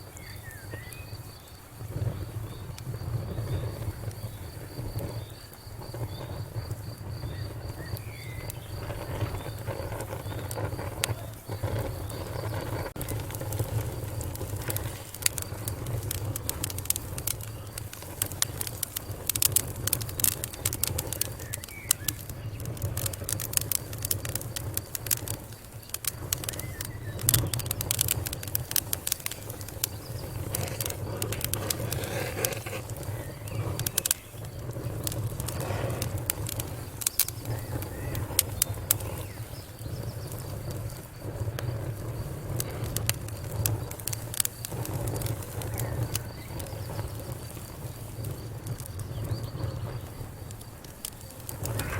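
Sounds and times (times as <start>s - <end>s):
fire crackling: 0.0s - 51.9s.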